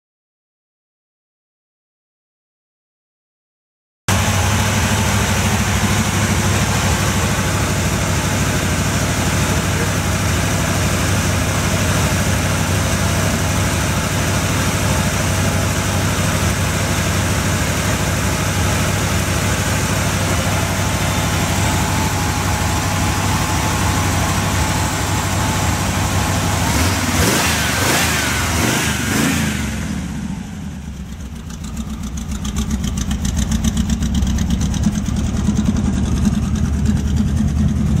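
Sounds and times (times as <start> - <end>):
truck engine running: 4.1 - 38.0.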